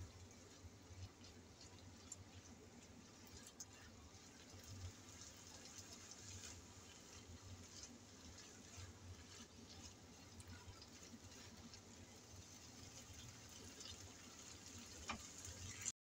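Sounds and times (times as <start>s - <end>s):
low steady hum: 0.0s - 15.9s
spatula stirring in frying pan: 0.0s - 15.9s
sauce crackling: 0.1s - 15.9s.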